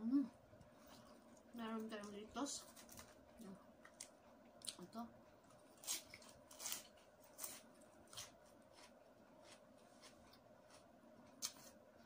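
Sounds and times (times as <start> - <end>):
lettuce crunching and chewing: 0.8 - 12.0.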